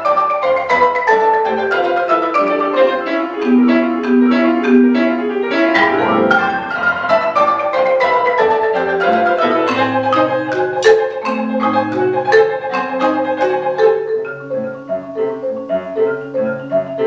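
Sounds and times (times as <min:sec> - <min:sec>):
marimba played with mallets: 0:00.0 - 0:17.0.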